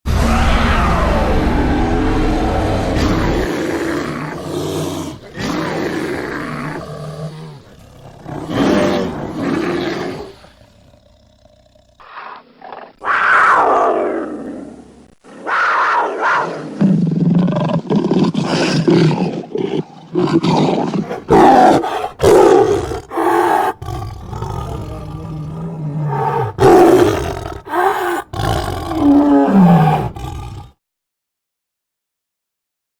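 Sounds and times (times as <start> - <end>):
deep roars and growls: 0.1 - 30.8.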